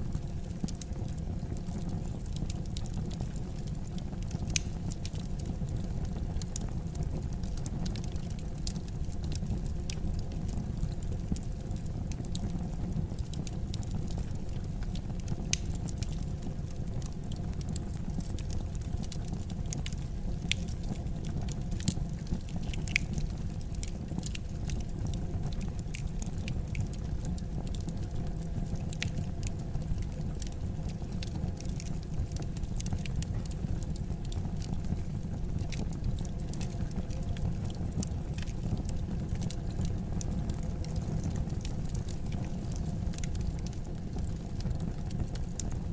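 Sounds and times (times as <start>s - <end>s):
fire crackling and popping: 0.0s - 45.9s
fire flames rumbling: 0.0s - 45.9s.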